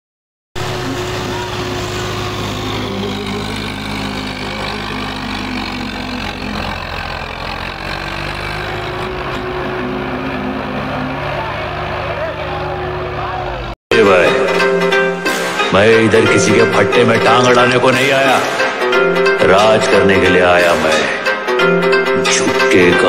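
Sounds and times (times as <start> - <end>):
tractor diesel engines under load: 0.6 - 23.0.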